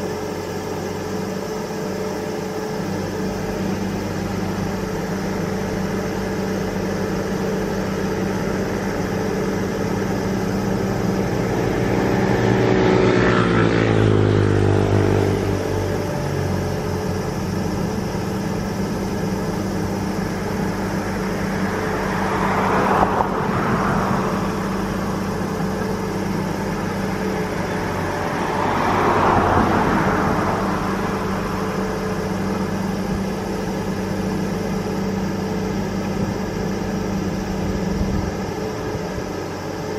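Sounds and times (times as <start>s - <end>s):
low drone of diesel machinery: 0.0s - 39.9s
road vehicles passing: 0.0s - 39.9s.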